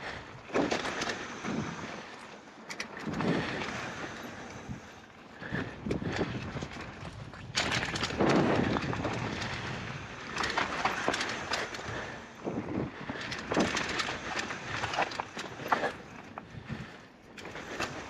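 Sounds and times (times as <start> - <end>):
bike rattling over bumps: 0.0 - 18.0
bike tyres on dirt: 0.0 - 18.0.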